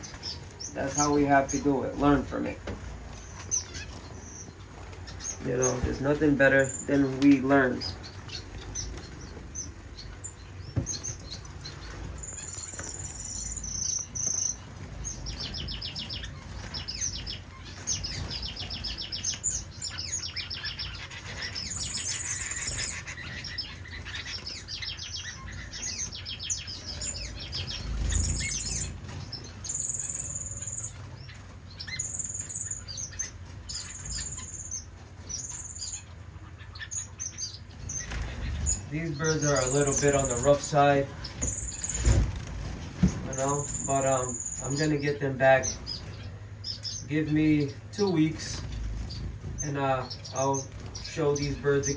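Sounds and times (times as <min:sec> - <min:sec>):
wings fluttering: 0:00.0 - 0:36.9, 0:37.5 - 0:51.9
finches chirping and calling: 0:00.0 - 0:51.9.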